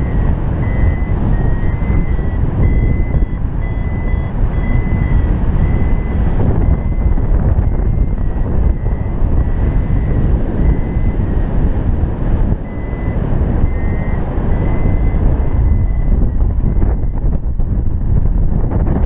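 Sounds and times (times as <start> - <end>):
variometer beeping: 0.0 - 17.4, 18.6 - 19.0
wind noise on microphone: 0.0 - 19.0.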